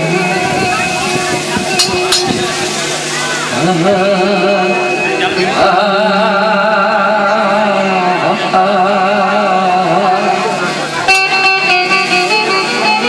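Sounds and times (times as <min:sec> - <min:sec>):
devotional folk singing: 0:00.0 - 0:12.3.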